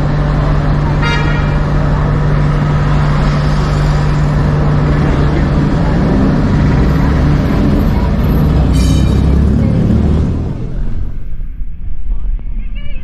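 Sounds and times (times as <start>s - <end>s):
electric tram hum: 0.0s - 13.0s
rumbling of wheels and traffic: 0.0s - 13.0s.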